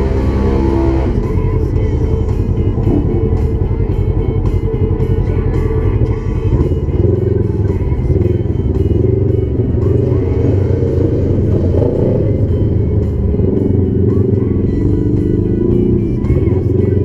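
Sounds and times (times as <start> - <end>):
background guitar music: 0.0 - 17.0
off-road vehicle engine revving: 0.0 - 17.0.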